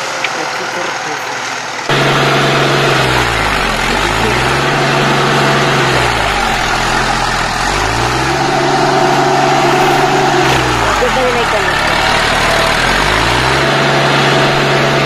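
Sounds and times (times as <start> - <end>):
tractor diesel engine working: 0.0 - 15.0.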